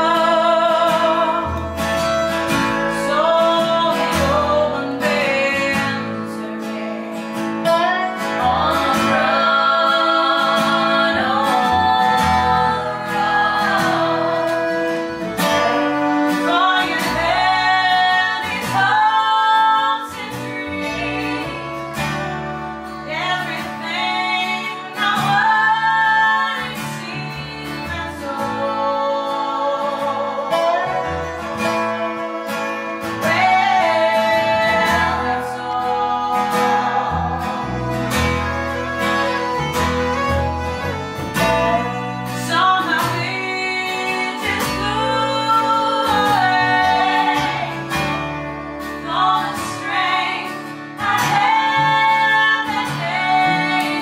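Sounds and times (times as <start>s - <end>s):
women singing: 0.0s - 40.2s, 40.9s - 54.0s
fiddle: 0.0s - 54.0s
strummed acoustic guitar: 0.0s - 54.0s
upright bass: 0.0s - 54.0s.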